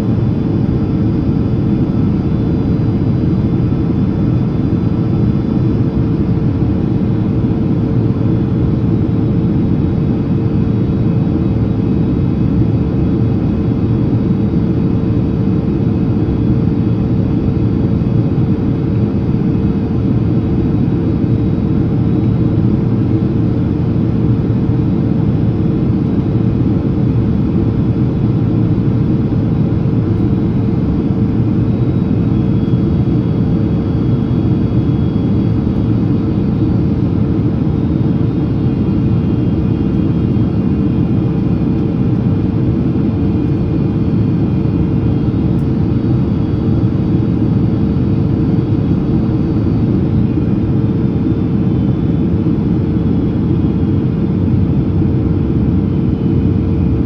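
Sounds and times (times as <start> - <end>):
constant cabin hum: 0.0 - 57.0
engine and airflow rush: 0.0 - 57.0.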